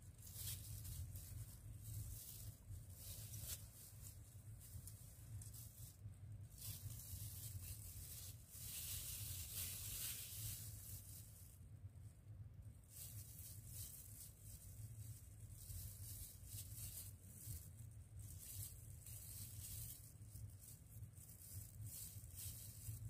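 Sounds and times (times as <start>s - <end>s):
plastic bag crinkling: 0.0s - 11.6s, 12.8s - 23.0s
faint low hum: 0.0s - 23.0s.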